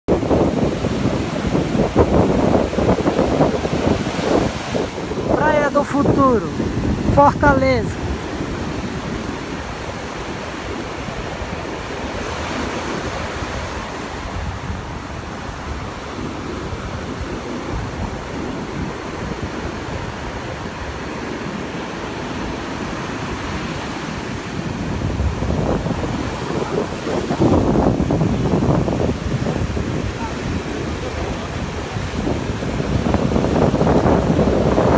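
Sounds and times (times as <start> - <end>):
ocean surf breaking on sand: 0.1 - 34.9
wind rumbling on microphone: 0.1 - 34.9.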